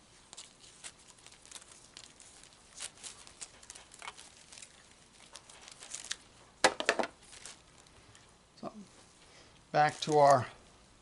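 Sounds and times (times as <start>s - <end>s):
tape rustling and crinkling: 0.0s - 8.4s, 9.0s - 10.6s.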